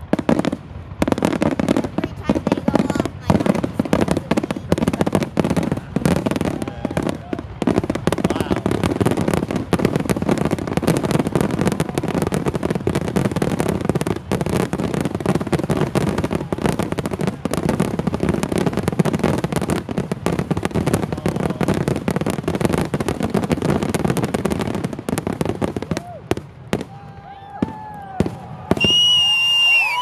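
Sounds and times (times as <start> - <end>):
fireworks booming and crackling: 0.0 - 30.0.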